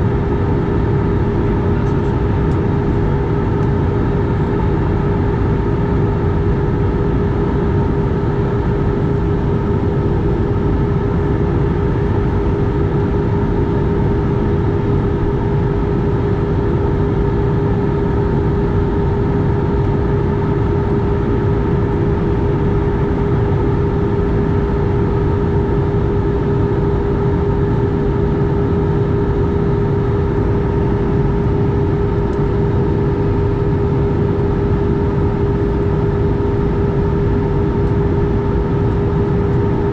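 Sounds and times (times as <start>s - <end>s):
jet engine drone: 0.0s - 39.9s
steady mid-pitched hum: 0.0s - 39.9s.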